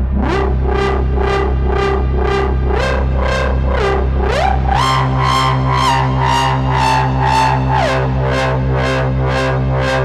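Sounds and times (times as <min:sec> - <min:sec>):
low synthesizer bass note: 0:00.0 - 0:10.0
repeating higher synthesizer notes: 0:00.0 - 0:10.0.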